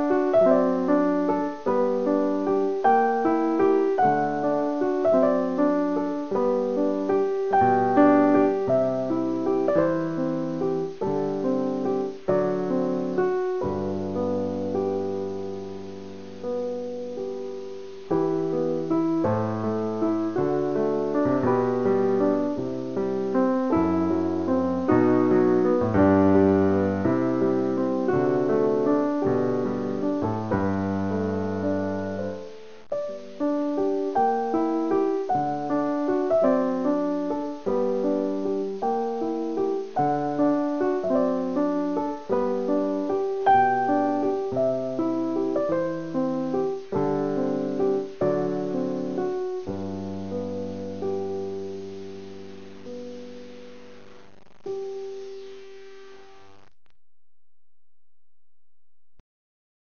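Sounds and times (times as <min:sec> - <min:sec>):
solo piano music: 0:00.0 - 0:56.4.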